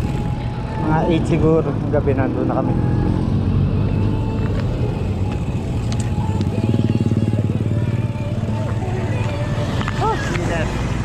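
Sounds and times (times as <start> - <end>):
faint music: 0.0 - 11.0
motorcycle engine rumbling: 0.0 - 11.0.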